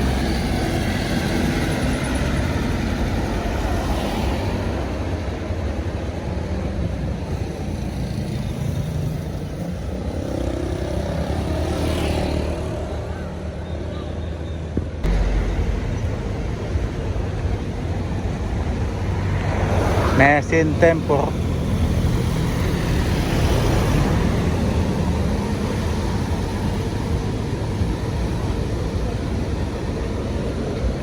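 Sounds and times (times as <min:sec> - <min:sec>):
heavy vehicle engines rumbling: 0:00.0 - 0:31.0
road traffic noise: 0:00.0 - 0:31.0.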